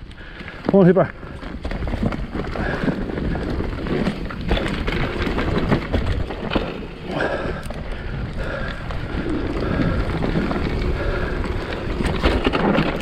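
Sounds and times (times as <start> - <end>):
bike rattling: 0.0 - 13.0
bike tyres clattering over rock: 0.2 - 13.0.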